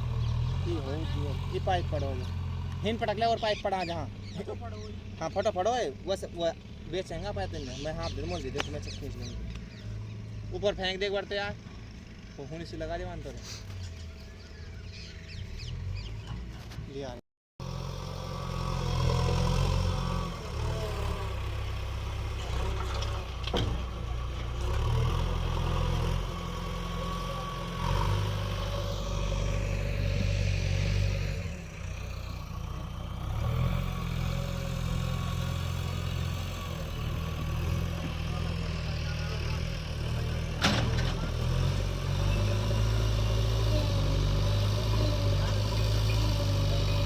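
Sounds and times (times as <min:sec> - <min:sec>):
heavy diesel engine running: 0:00.0 - 0:16.1, 0:17.6 - 0:47.0.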